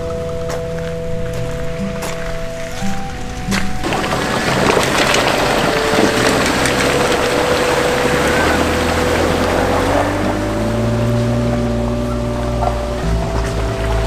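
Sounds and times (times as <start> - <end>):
car engine running: 0.0 - 14.0
approaching vehicle engine: 1.0 - 14.0
water splashing around tires: 2.6 - 14.0.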